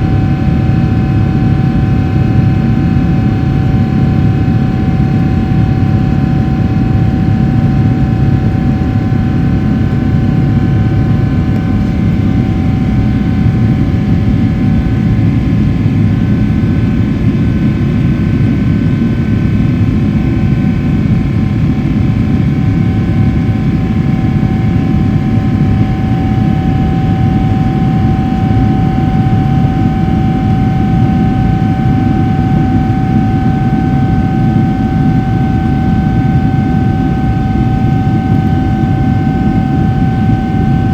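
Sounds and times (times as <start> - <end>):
jet engine roar: 0.0 - 40.9
jet engine whine: 0.0 - 40.9.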